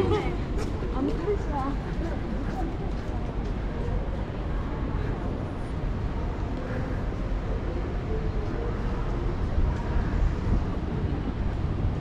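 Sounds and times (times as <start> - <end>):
distant voices murmuring: 0.0 - 12.0
low city rumble: 0.0 - 12.0.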